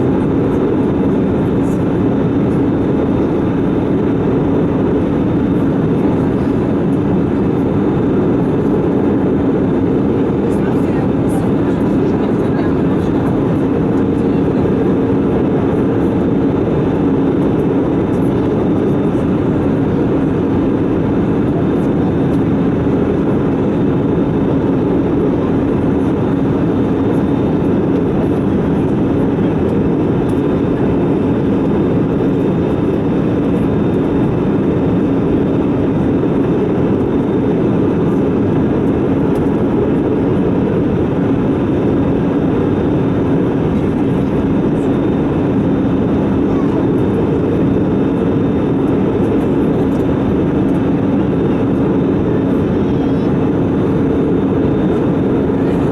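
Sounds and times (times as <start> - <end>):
airplane cabin engine noise: 0.0 - 55.9.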